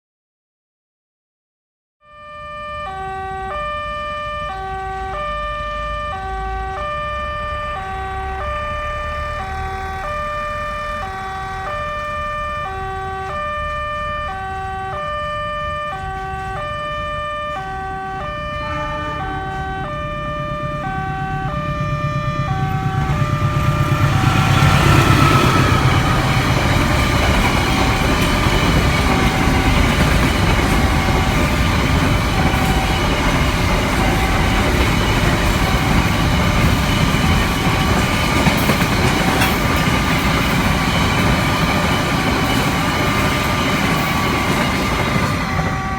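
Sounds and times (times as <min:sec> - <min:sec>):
two-tone level crossing alarm: 0:02.0 - 0:45.9
train passing with rush of wind: 0:02.4 - 0:45.9
train rumble: 0:03.0 - 0:45.9.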